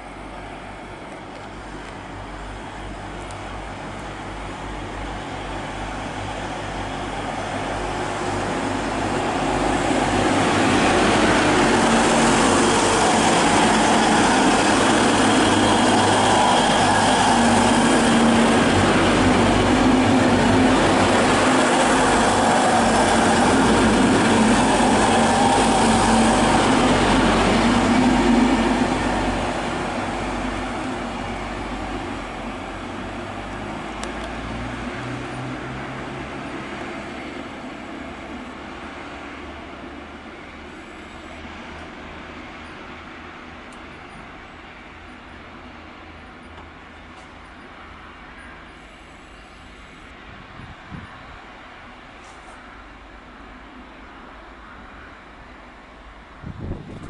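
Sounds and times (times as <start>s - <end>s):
diesel train passing: 0.0s - 57.0s.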